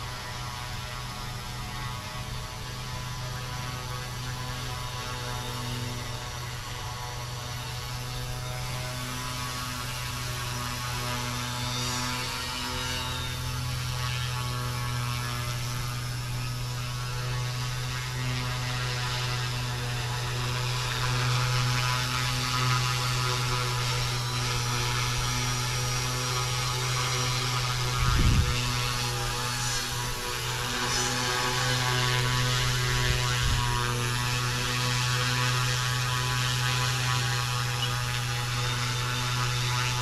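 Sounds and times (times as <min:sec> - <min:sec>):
rc helicopter motor and rotor: 0:00.0 - 0:40.0.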